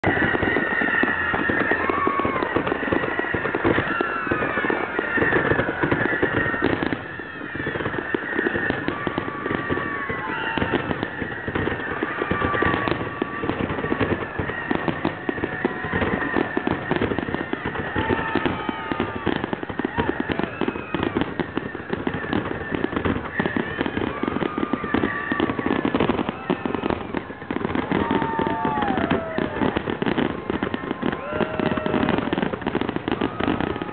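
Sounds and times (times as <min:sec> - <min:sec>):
fireworks bangs and crackling: 0:00.0 - 0:33.9
fireworks whistling: 0:00.0 - 0:33.9.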